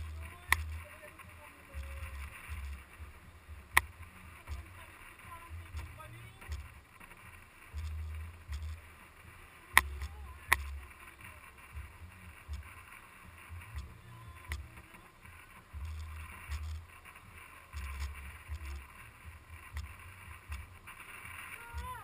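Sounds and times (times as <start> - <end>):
wind buffeting a camera: 0.0 - 22.0.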